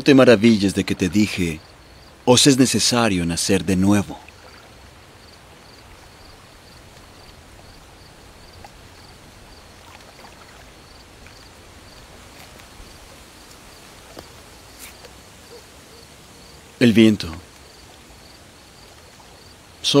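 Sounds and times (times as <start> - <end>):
trickling water: 0.0 - 20.0
cricket chirping: 0.1 - 20.0.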